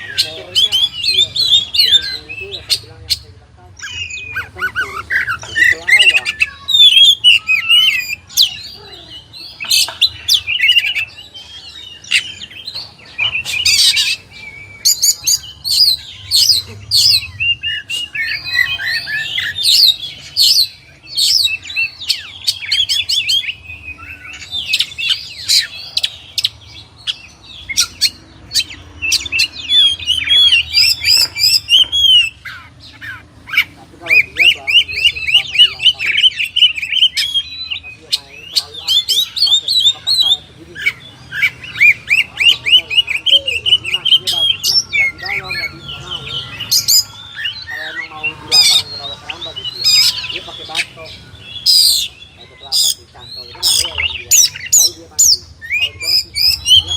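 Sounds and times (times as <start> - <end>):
bird singing whistles and chirps: 3.8 - 56.9.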